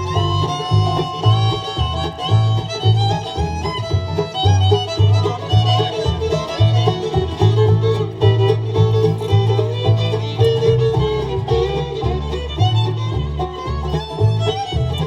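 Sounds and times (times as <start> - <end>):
banjo: 0.0 - 15.0
bass line: 0.0 - 15.0
fiddle melody: 0.0 - 15.0
guitar: 0.0 - 15.0.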